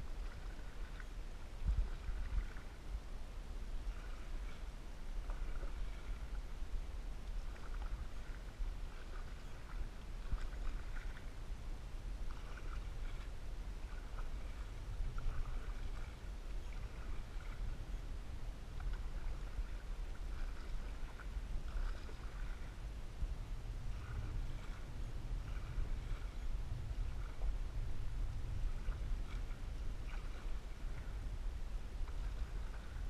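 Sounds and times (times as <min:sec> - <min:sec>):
paddle strokes splashing in water: 0:00.0 - 0:33.0
steady low rumble: 0:00.0 - 0:33.0.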